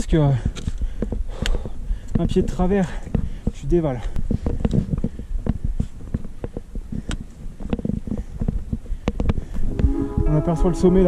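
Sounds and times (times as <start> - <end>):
wind rumble on microphone: 0.0 - 11.0
trekking poles clicking on rock: 0.2 - 9.5
boots on rock: 0.2 - 9.7.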